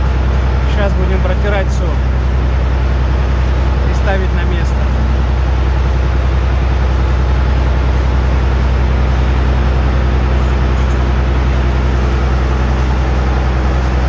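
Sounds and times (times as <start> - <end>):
low machine drone: 0.0 - 14.0.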